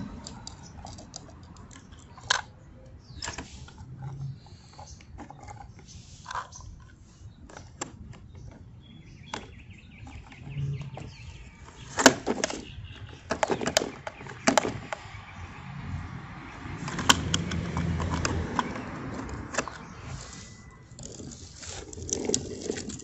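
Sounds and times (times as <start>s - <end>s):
plastic toy trucks knocking and clicking: 0.0s - 15.2s, 16.6s - 23.0s.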